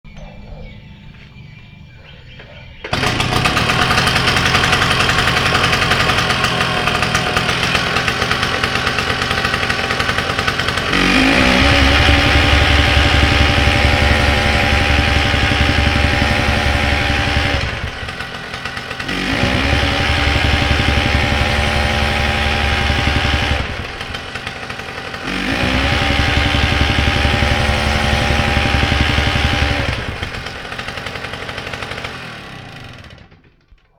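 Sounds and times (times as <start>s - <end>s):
rammer engine pounding: 0.1s - 33.8s.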